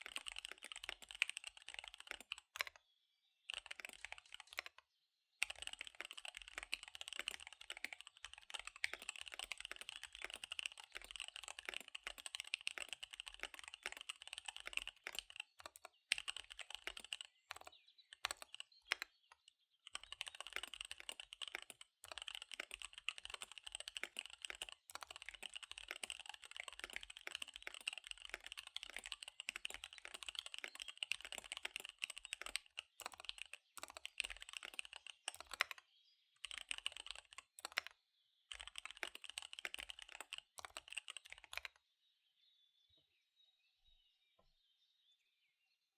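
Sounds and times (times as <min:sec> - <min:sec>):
fast typing on mechanical keyboard: 0:00.0 - 0:02.8, 0:03.5 - 0:04.8, 0:05.4 - 0:35.8, 0:36.4 - 0:37.9, 0:38.5 - 0:41.8.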